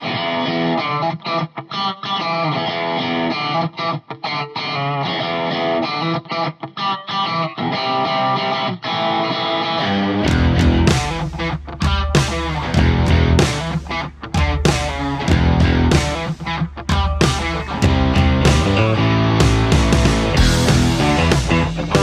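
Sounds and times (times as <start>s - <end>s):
guitar rock music: 0.0s - 22.0s.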